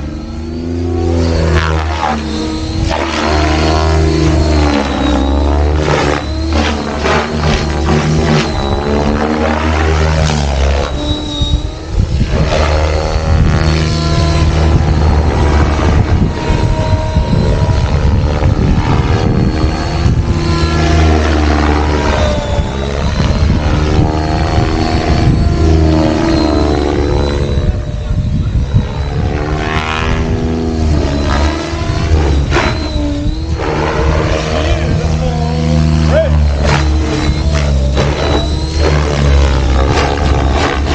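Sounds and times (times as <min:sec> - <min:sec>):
helicopter rotor blades buzzing: 0:00.0 - 0:40.9
thin high whine: 0:00.0 - 0:40.9.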